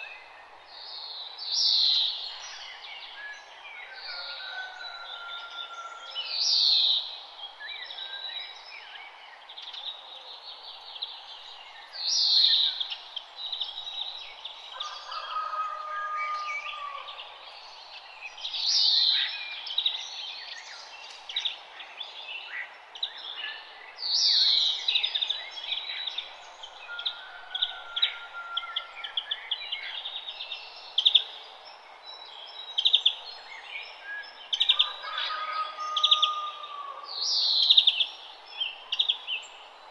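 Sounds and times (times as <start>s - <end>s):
loud bird song phrase: 0.0s - 39.9s
songbirds singing and chirping: 0.0s - 39.9s.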